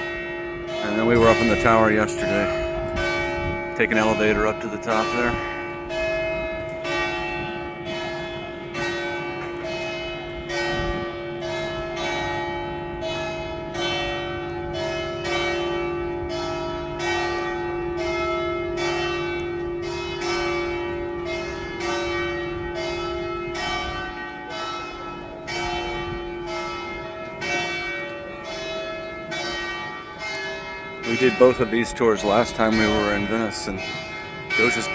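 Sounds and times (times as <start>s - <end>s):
church bells ringing a peal: 0.0s - 34.9s.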